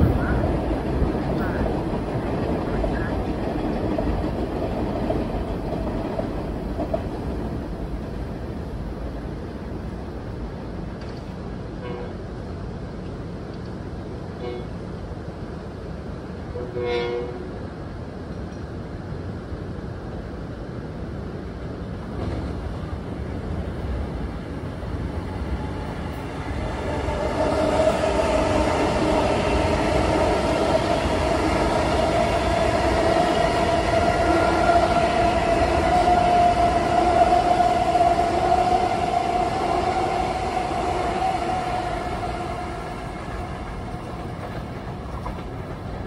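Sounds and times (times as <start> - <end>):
train rumbling by: 0.0 - 46.0.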